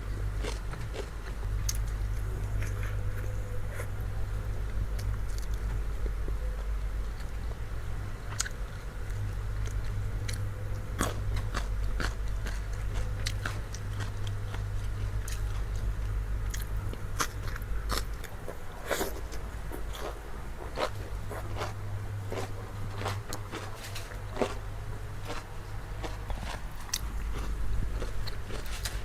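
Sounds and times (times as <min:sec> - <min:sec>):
person chewing crunchy food: 0:00.0 - 0:07.6, 0:08.3 - 0:29.0.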